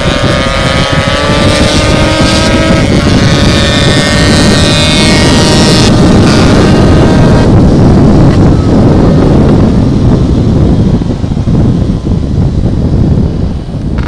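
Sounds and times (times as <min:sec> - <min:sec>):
motorcycle engine at high revs: 0:00.0 - 0:14.0
wind noise on microphone: 0:00.0 - 0:14.0.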